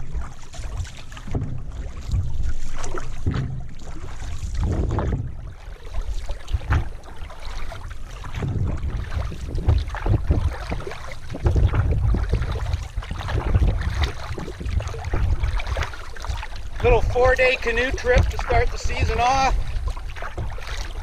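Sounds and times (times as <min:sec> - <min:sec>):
low rumble of hull vibration: 0:00.0 - 0:21.0
paddle knocking on canoe: 0:00.0 - 0:21.0
paddle strokes in water: 0:00.0 - 0:21.0.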